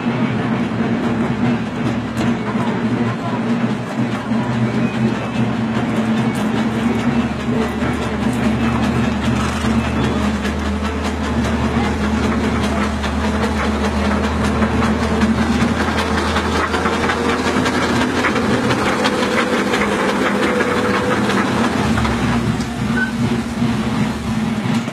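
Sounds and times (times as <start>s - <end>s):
large engine running: 0.0s - 24.9s
clatter: 0.1s - 24.9s.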